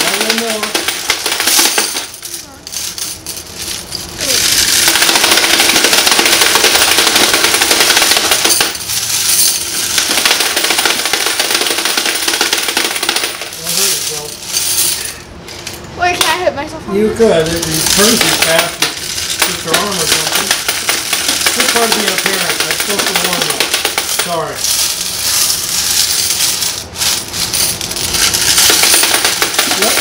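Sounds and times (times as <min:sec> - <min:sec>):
hand-cranked coin counter: 0:00.0 - 0:03.5, 0:04.2 - 0:15.1, 0:17.4 - 0:30.0
coins clattering on metal pan: 0:00.0 - 0:15.8, 0:17.4 - 0:30.0.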